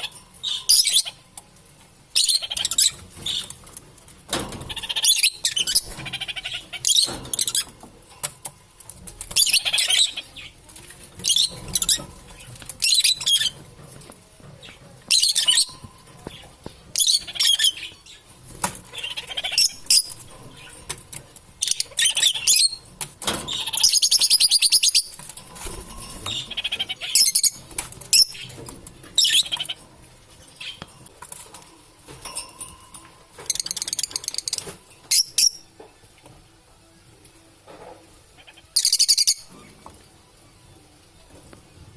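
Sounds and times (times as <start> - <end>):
lovebirds chirping and chattering: 0.0 - 36.4, 38.2 - 41.5.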